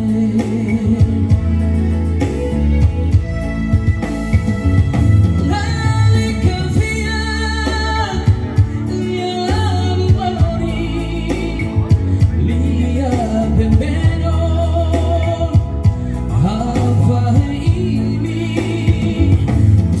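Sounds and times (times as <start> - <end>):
man singing into a microphone: 0.0 - 1.9, 5.4 - 20.0
keyboard band backing: 0.0 - 20.0.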